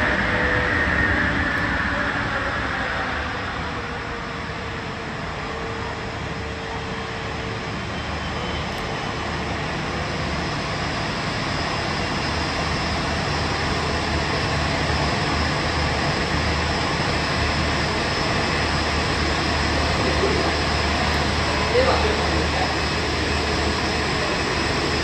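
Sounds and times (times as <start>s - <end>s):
jet engines at taxi idle: 0.0s - 25.0s.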